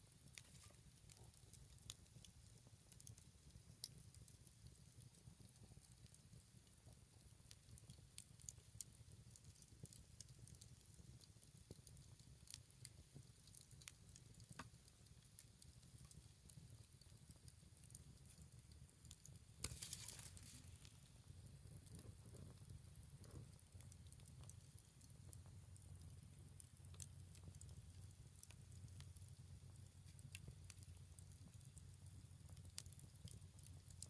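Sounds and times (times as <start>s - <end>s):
bonfire crackling and popping: 0.0s - 34.0s.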